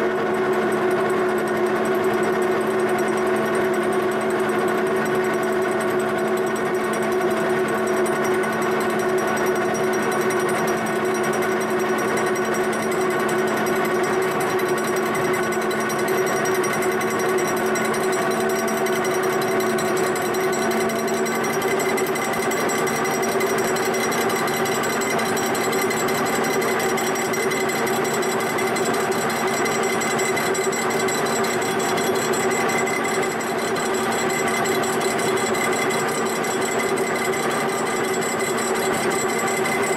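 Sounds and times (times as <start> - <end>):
milling machine cutting metal: 2.8 - 39.9.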